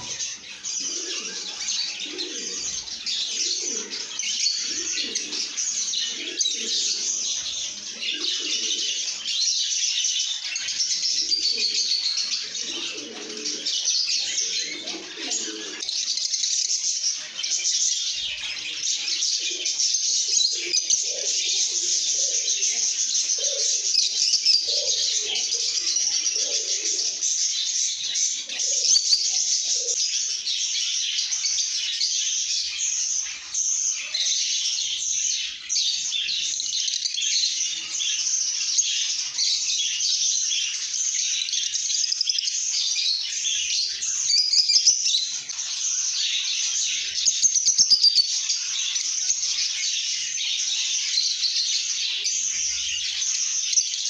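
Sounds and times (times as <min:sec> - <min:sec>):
flock of birds chattering: 0:00.0 - 0:54.0.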